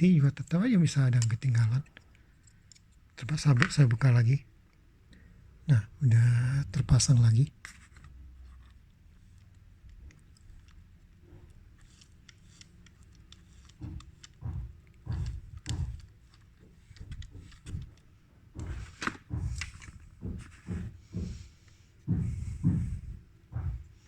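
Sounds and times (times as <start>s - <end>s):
small parts clicking and knocking: 0.4s - 5.3s, 7.0s - 21.8s.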